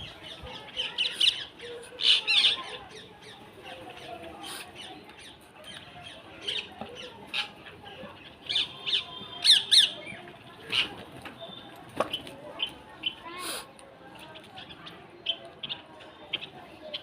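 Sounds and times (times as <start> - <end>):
birds calling: 0.0 - 13.7.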